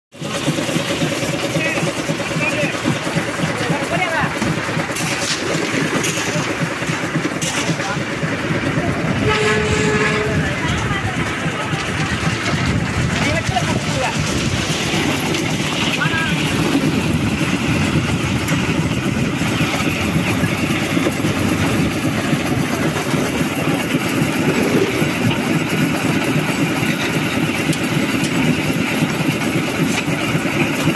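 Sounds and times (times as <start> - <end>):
concrete mixer engine running: 0.2 - 30.9.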